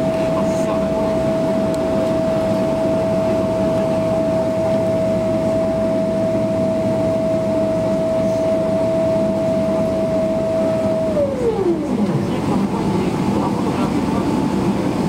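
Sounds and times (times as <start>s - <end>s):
airplane cabin rumble: 0.0s - 15.0s
steady high whine: 0.0s - 15.0s.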